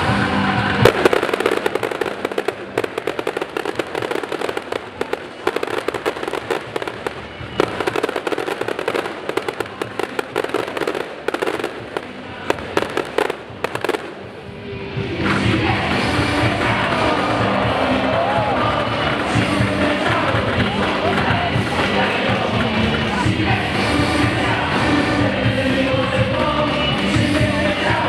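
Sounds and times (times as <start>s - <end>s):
fireworks cracking and popping: 0.0s - 14.6s, 15.2s - 28.0s.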